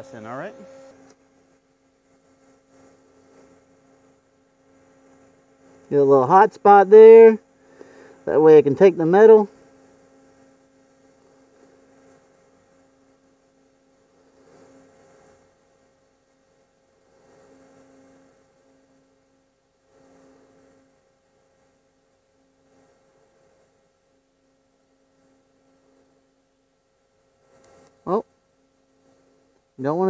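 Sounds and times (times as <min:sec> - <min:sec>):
faint welding arc hum: 0:00.0 - 0:30.0.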